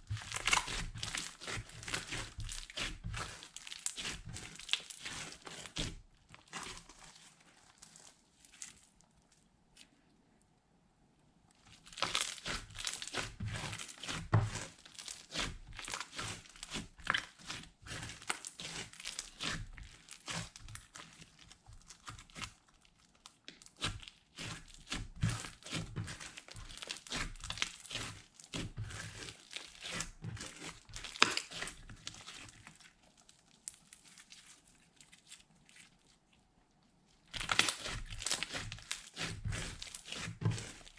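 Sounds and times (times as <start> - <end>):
slime squished by hand: 0.0 - 9.9, 11.6 - 22.7, 23.5 - 36.1, 37.2 - 40.9.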